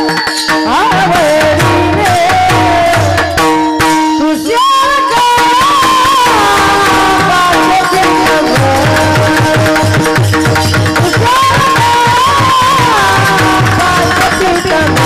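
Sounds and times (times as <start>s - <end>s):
hand drum: 0.0s - 15.0s
harmonium drone: 0.0s - 15.0s
man singing: 0.7s - 3.6s, 4.2s - 10.2s, 11.0s - 15.0s.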